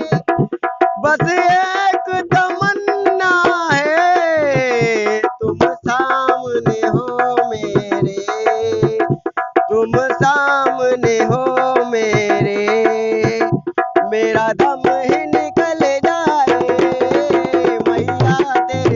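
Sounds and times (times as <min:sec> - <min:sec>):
fast hand drumming: 0:00.0 - 0:18.9.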